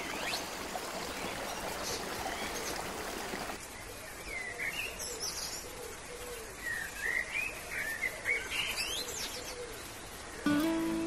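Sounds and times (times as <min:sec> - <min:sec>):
soft outdoor hiss: 0:00.0 - 0:11.0
songbirds chirping and warbling: 0:00.0 - 0:11.0.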